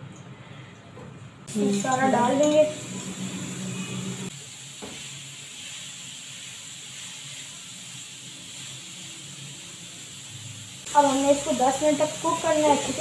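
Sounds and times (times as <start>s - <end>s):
meat sizzling in a frying pan: 1.5s - 13.0s.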